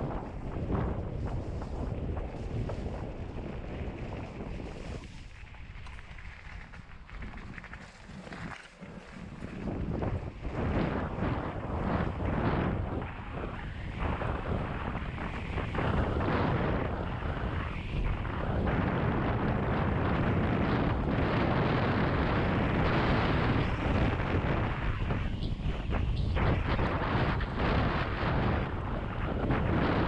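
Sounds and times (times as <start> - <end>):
bike tyre noise: 0.0 - 30.0
wind buffeting microphone: 0.0 - 30.0.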